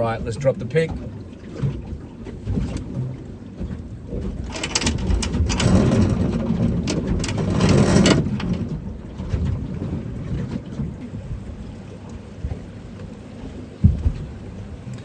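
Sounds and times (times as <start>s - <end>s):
water rushing past boat: 0.0s - 15.0s.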